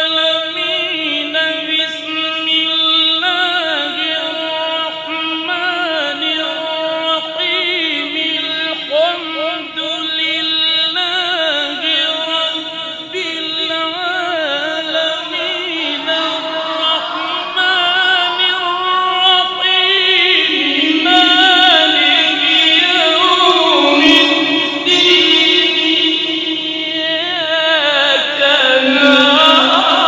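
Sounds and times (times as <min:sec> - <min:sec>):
person reciting melodically: 0:00.0 - 0:30.0.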